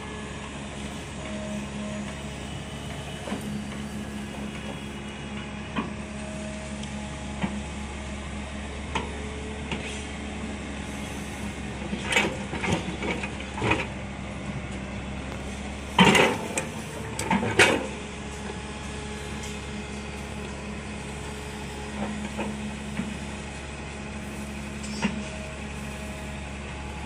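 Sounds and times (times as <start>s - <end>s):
excavator diesel engine droning: 0.0s - 27.0s.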